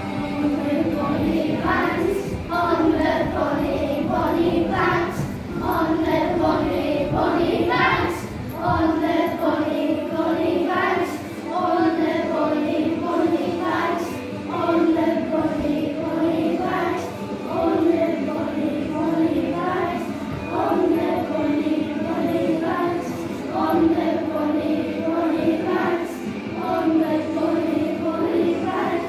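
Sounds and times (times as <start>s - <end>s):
young children singing: 0.0s - 29.0s.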